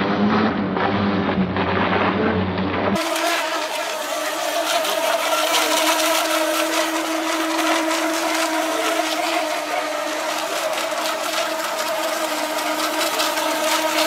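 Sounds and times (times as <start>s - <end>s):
rc boat motors whining: 0.0s - 14.0s.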